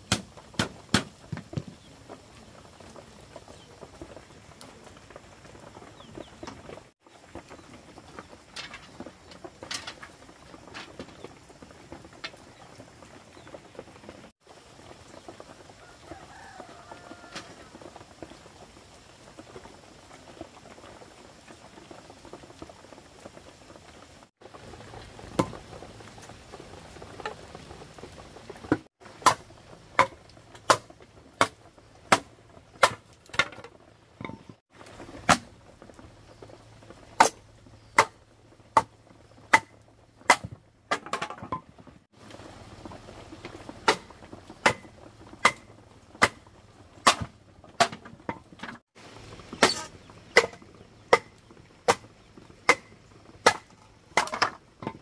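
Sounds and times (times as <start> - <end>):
heavy rain hissing: 0.0 - 40.9, 42.1 - 47.6, 48.9 - 54.8.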